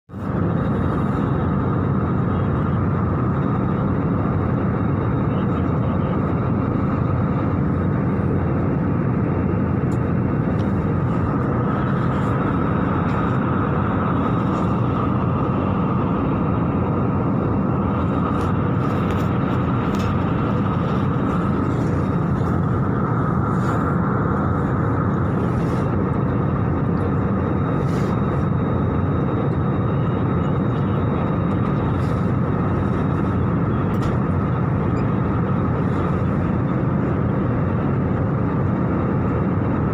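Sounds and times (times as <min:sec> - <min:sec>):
airliner cabin engine rush: 0:00.1 - 0:39.9.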